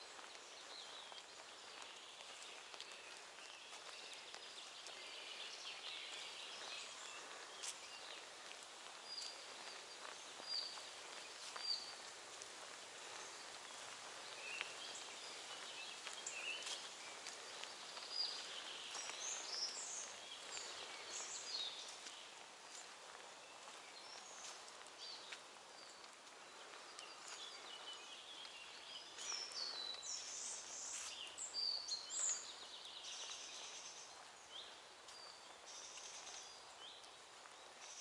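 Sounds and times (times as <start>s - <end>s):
songbirds chirping and whistling: 0.0s - 38.0s.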